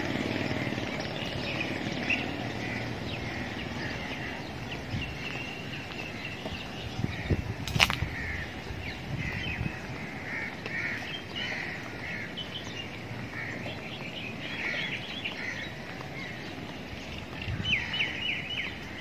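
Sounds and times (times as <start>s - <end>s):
birds calling: 0.0s - 19.0s
low outdoor background noise: 0.0s - 19.0s.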